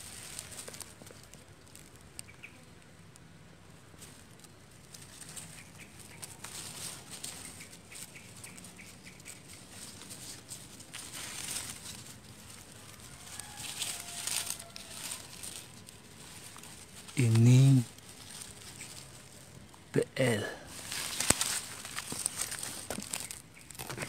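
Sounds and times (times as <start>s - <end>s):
bamboo twigs and leaves rustling: 0.0s - 2.5s, 3.1s - 24.0s.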